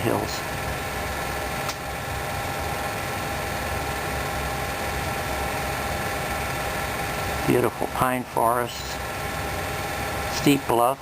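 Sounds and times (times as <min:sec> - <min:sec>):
film projector running: 0:00.0 - 0:11.0.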